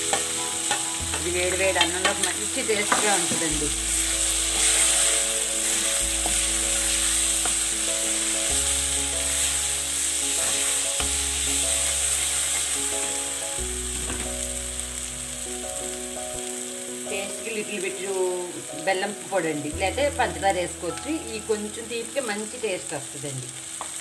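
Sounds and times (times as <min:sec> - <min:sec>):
chutney sizzling in oil: 0:00.0 - 0:24.0
soft background music: 0:00.0 - 0:24.0.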